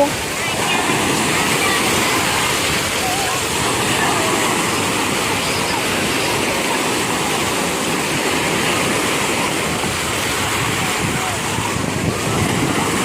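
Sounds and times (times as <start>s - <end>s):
sea waves washing onto shore: 0.0s - 13.0s.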